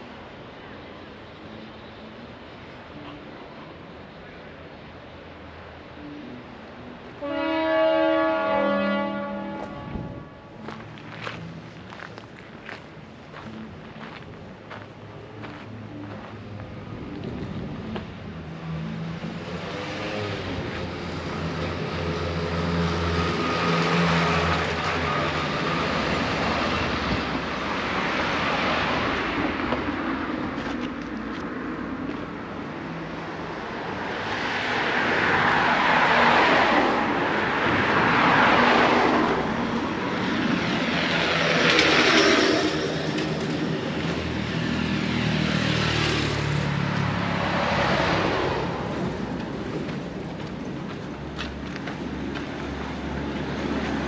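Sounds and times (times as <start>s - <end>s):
vehicles passing by: 0.0s - 54.0s.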